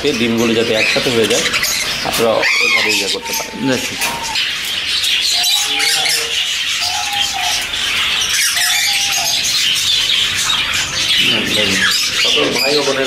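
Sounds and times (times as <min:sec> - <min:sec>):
parrots chattering and chirping: 0:00.0 - 0:13.0.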